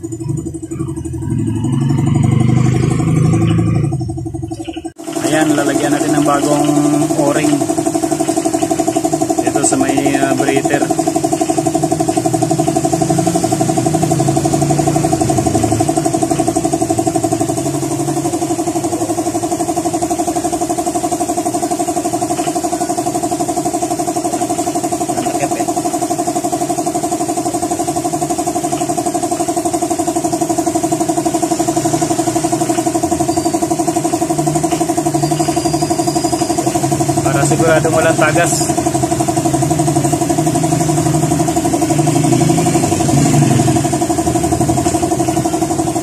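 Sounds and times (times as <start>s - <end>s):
small engine idling: 0.0s - 46.0s.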